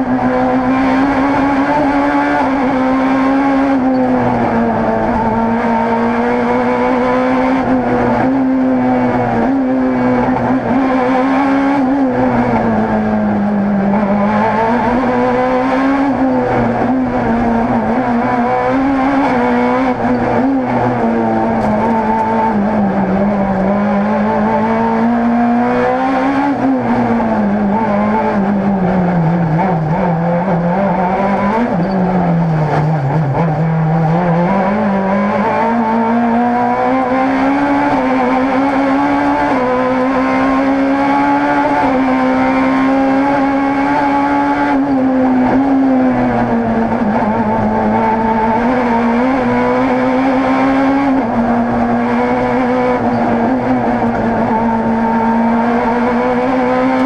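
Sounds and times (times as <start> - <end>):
rally car engine under load: 0.0 - 57.0.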